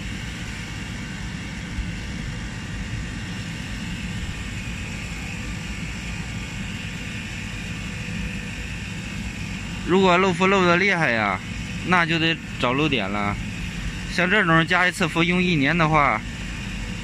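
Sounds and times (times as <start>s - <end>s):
refrigeration compressor humming: 0.0s - 17.0s.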